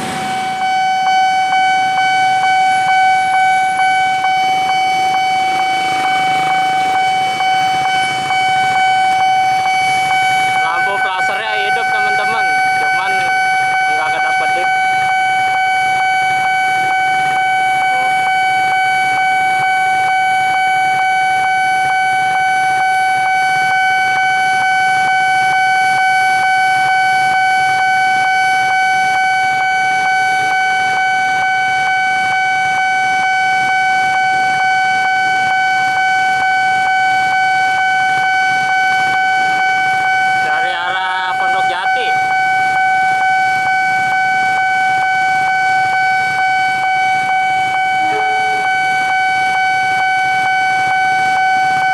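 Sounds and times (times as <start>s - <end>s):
level crossing alarm tone: 0.0s - 51.9s.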